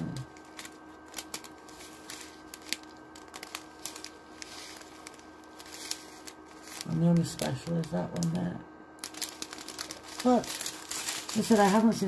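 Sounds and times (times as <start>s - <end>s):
faint steady hum: 0.0s - 12.0s
plastic bags clicking and rustling: 0.0s - 12.0s.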